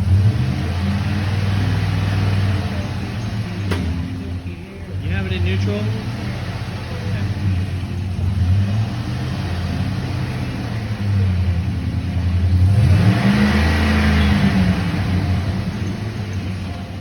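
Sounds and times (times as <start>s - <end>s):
pickup engine idling and revving: 0.0s - 17.0s.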